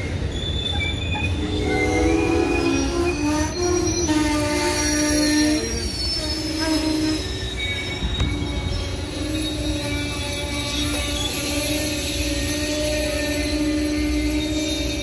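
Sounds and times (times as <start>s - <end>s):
train rumble: 0.0s - 15.0s
train wheels squealing: 0.0s - 15.0s.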